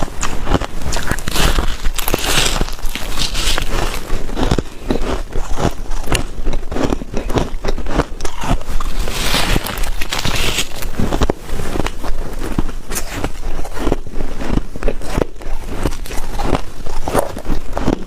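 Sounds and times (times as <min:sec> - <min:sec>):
ice cubes being chewed: 0:00.0 - 0:18.0.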